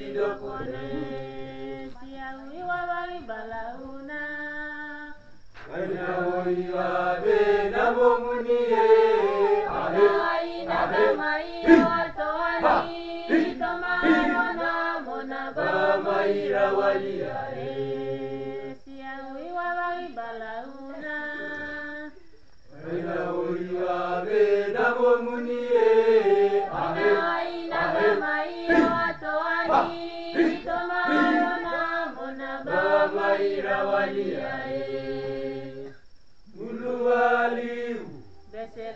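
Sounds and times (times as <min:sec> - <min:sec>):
choir singing a hymn in harmony: 0:00.0 - 0:38.9.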